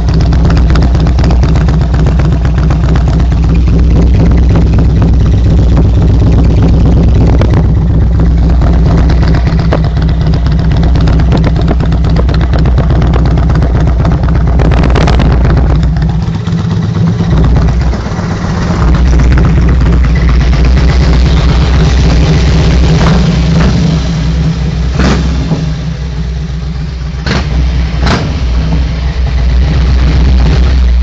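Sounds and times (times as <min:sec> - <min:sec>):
motorcycle engine idling: 0:00.0 - 0:31.0
motorcycle engine revving: 0:00.0 - 0:31.0.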